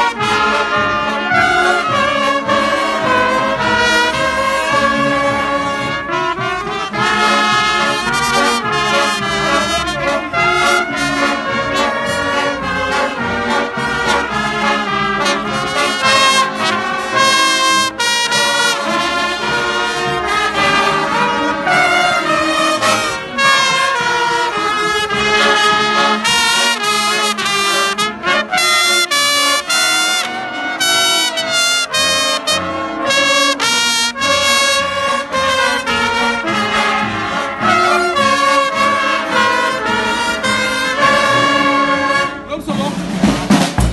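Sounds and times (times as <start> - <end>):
brass band playing a march: 0.0 - 43.9
trumpets playing melody: 0.0 - 43.9.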